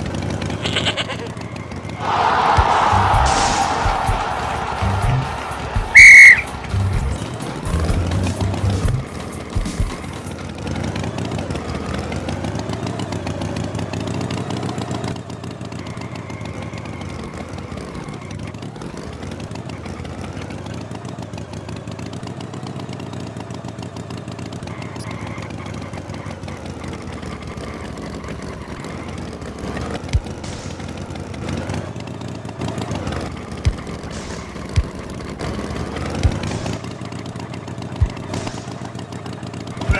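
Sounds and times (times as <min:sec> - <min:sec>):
tractor engine revving: 0:01.3 - 0:21.3, 0:24.4 - 0:39.9.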